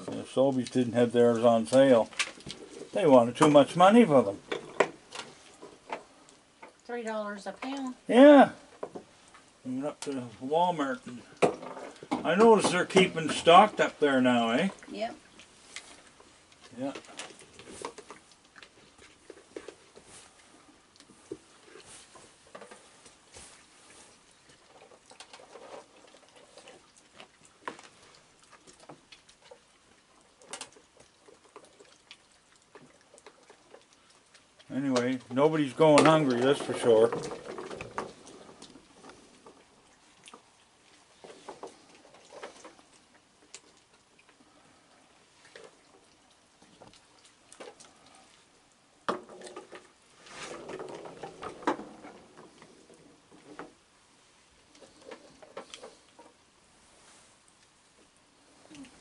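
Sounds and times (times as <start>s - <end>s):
paws scraping plastic buckets: 0.0s - 44.4s, 49.1s - 53.8s, 54.7s - 56.4s
raccoons chewing: 0.0s - 59.0s.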